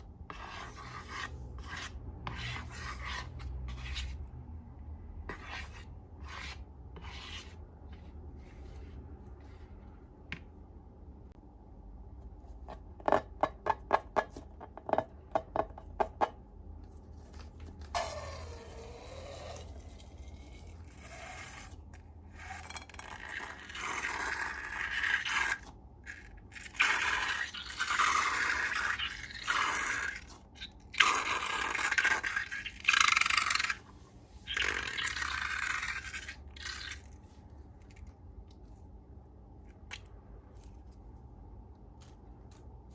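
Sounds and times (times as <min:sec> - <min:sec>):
slime scraping and stirring: 0:00.0 - 0:04.5, 0:05.2 - 0:10.5, 0:16.8 - 0:42.9.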